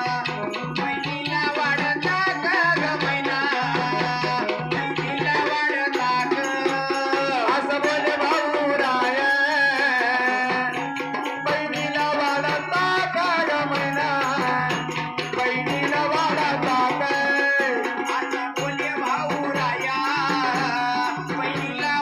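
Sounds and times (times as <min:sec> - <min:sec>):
hand drum rhythm: 0:00.0 - 0:22.0.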